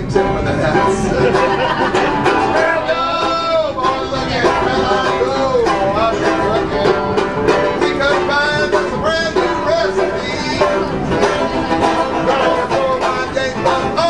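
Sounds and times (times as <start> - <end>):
country music with banjo: 0.0 - 14.0.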